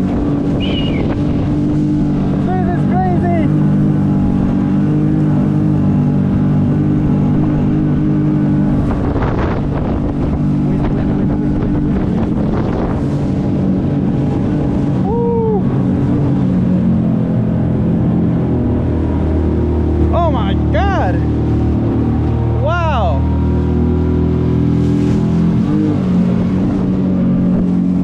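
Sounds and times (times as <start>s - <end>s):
wind on microphone: 0.0s - 2.7s, 3.4s - 20.1s, 23.3s - 28.0s
outboard motor running: 0.0s - 28.0s
water rushing past hulls: 0.0s - 28.0s.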